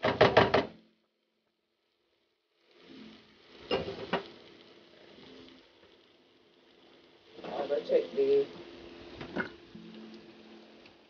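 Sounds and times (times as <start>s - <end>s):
vegetables sizzling in a pan: 1.7s - 11.0s.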